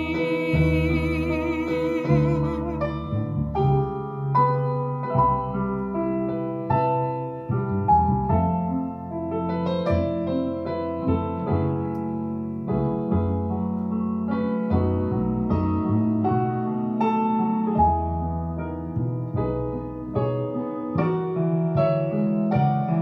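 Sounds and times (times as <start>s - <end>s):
slow piano ballad: 0.0s - 23.0s.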